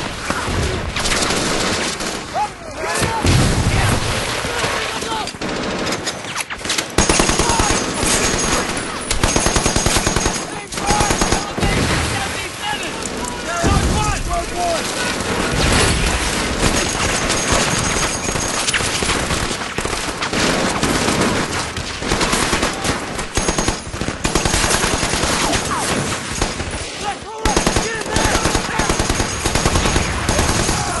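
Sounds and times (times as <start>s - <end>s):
machine-gun and rifle fire: 0.0s - 2.4s, 3.6s - 12.1s, 14.6s - 31.0s.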